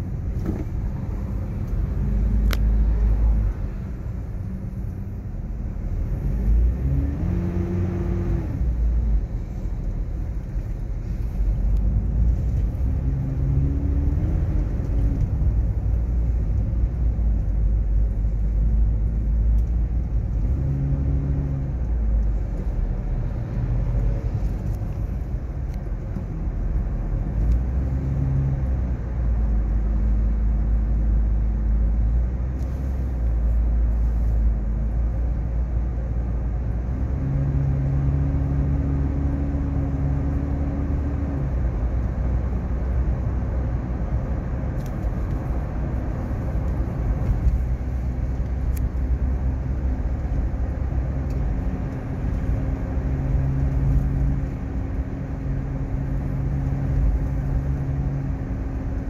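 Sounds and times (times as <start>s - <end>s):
car engine note rising and falling: 0.0s - 59.0s
road noise inside moving car: 0.0s - 59.0s.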